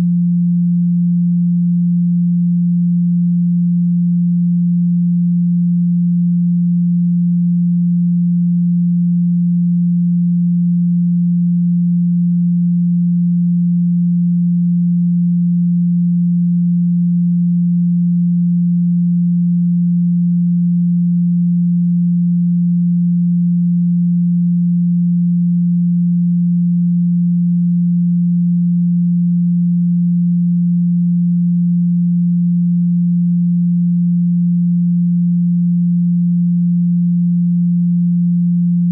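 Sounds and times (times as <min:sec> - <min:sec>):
low sine tone hum: 0:00.0 - 0:38.9.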